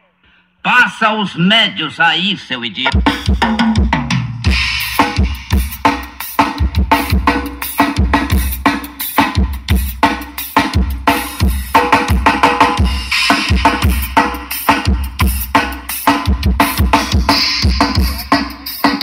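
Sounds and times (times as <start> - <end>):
loud drum-heavy music: 2.8 - 19.0.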